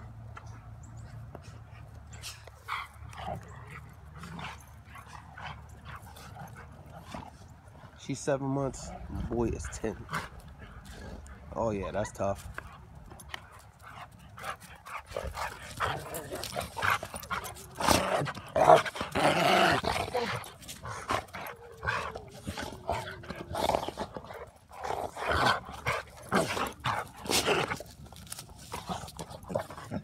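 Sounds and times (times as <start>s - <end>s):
dogs barking and yipping: 0.0s - 7.8s, 9.7s - 30.0s.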